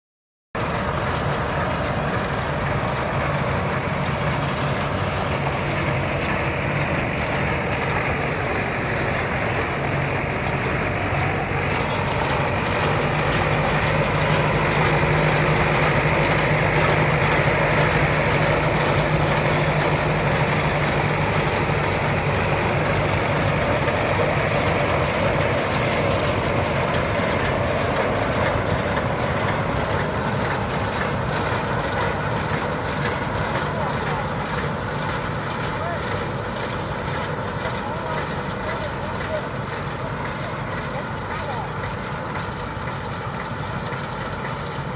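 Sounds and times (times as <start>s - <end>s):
round baler running: 0.6s - 44.9s
tractor engine running: 0.6s - 44.9s.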